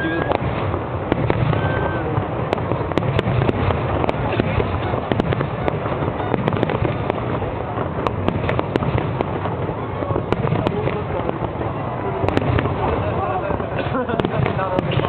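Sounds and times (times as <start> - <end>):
fireworks booms and crackles: 0.0 - 15.0
fireworks rumble: 0.0 - 15.0.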